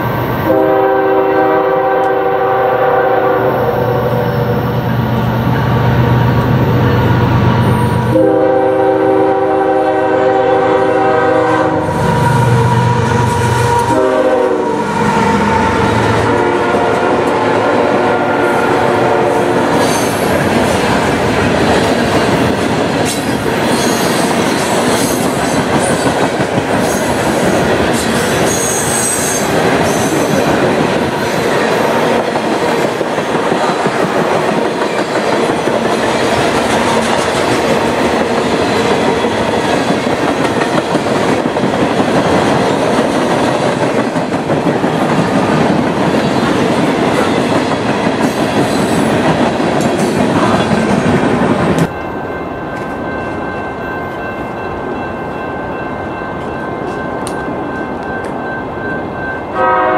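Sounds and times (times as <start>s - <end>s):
train wheels rumbling on rail: 0.0s - 53.4s.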